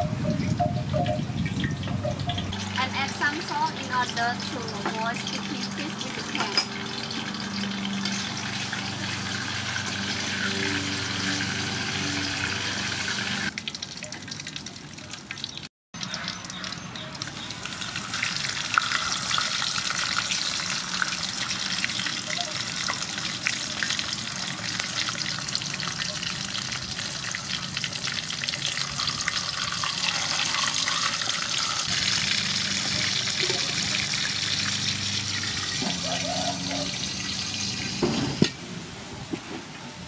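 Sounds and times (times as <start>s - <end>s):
fish sizzling in oil: 2.5s - 38.6s.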